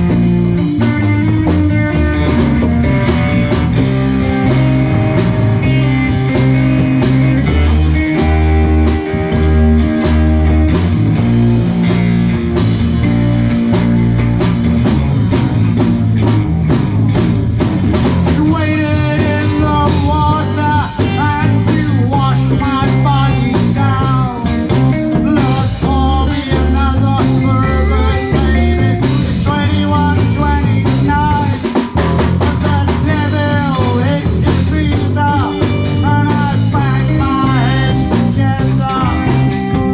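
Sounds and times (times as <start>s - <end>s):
lead guitar bending pitch: 0.0s - 39.9s
rock band playing: 0.0s - 39.9s.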